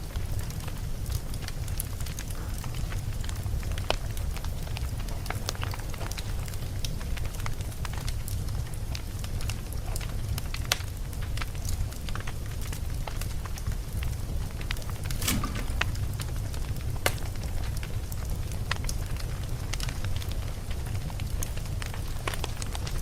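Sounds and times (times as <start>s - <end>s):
campfire crackling and popping: 3.2s - 23.0s.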